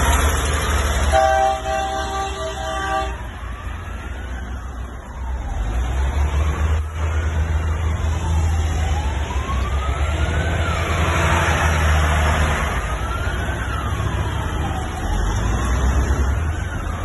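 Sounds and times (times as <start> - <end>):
heavy trucks rumbling past: 0.0 - 17.0
siren wailing: 0.0 - 17.0.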